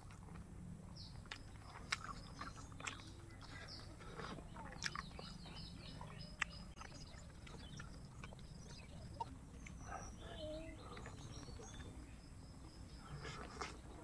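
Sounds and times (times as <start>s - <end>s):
chewing: 0.0s - 12.0s, 13.0s - 14.0s.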